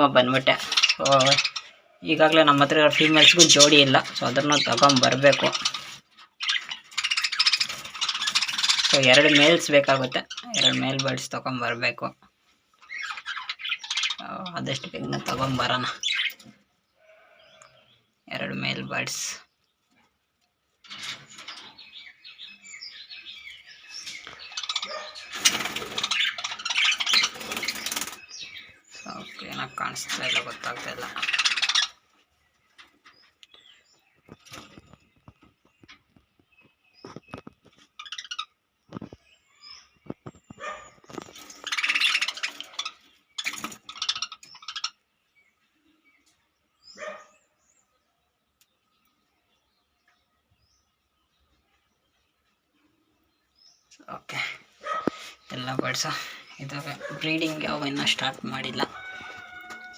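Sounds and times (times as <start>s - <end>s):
budgerigars chattering and chirping: 0.0s - 20.0s, 20.8s - 59.9s.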